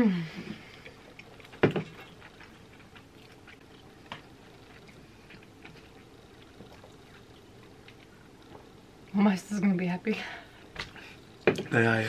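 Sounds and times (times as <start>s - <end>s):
people chewing food: 0.0s - 9.1s, 10.4s - 12.0s.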